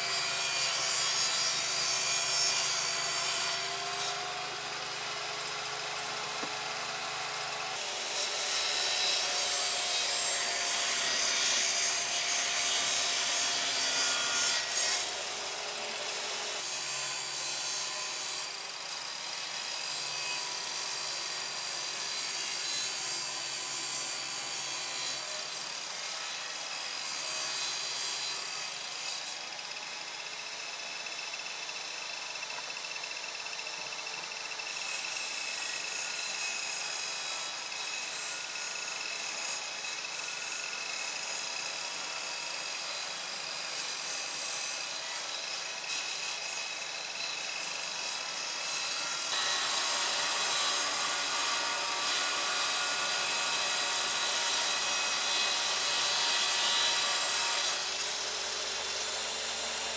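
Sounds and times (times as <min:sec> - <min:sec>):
wood being sawn: 0:00.0 - 0:30.2, 0:34.8 - 0:59.9.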